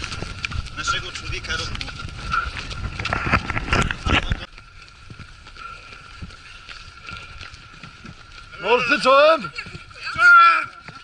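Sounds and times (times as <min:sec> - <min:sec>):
footsteps on gravel: 0:00.0 - 0:11.0
wind buffeting microphone: 0:00.0 - 0:11.0.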